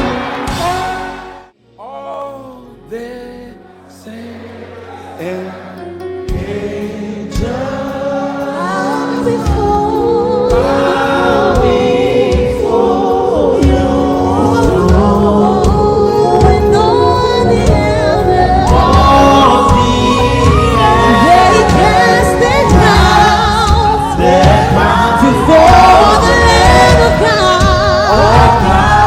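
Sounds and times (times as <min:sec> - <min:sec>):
congregation singing with band: 0:00.0 - 0:29.0.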